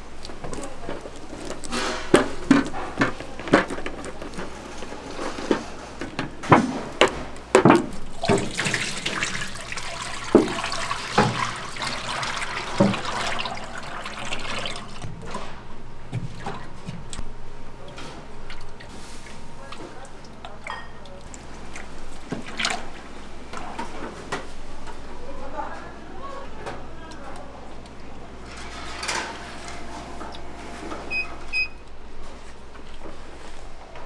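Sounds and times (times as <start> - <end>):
utensils and containers clattering: 0.0 - 17.2, 17.8 - 25.0, 27.8 - 31.6.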